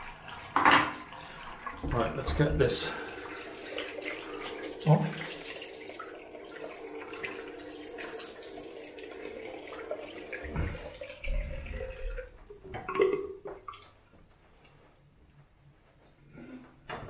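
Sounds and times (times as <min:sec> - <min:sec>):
tap running into basin: 0:00.0 - 0:13.9.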